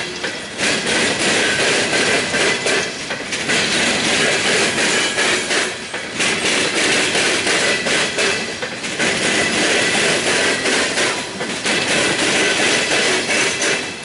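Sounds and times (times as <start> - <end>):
freight car wheels clattering on rails: 0.2 - 14.0.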